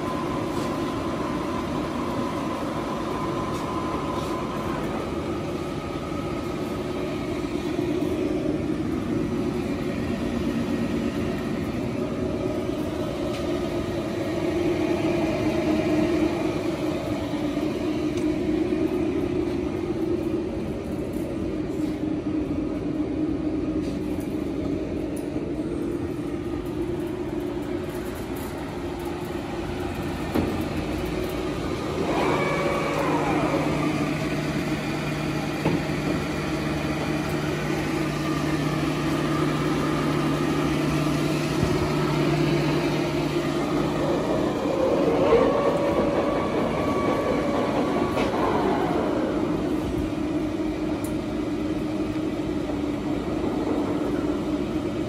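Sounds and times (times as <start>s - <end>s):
deep machine tone: 0.0s - 55.0s
lathe drive humming: 0.0s - 55.0s
machine whining: 0.0s - 55.0s.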